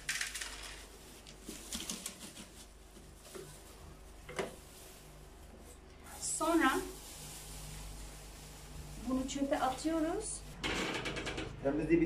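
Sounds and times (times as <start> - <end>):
rustling and scraping: 0.0 - 11.4.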